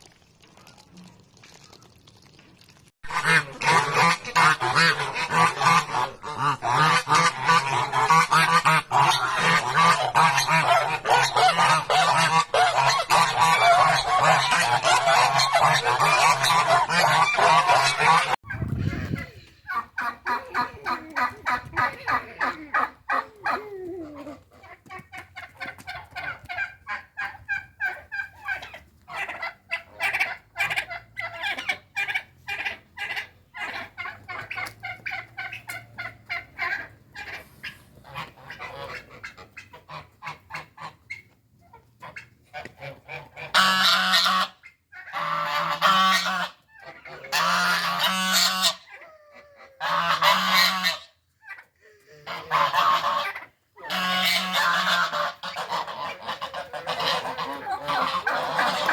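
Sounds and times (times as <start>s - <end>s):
geese honking: 3.1s - 58.9s.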